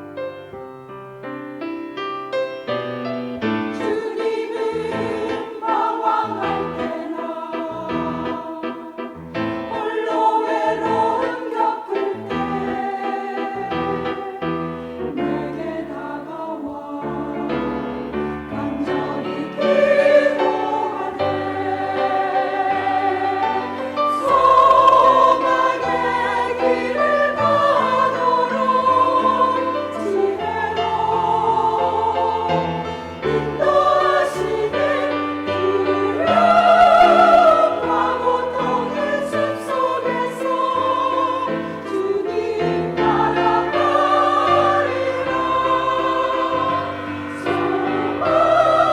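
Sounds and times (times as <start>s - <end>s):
church choir singing: 0.0s - 48.9s.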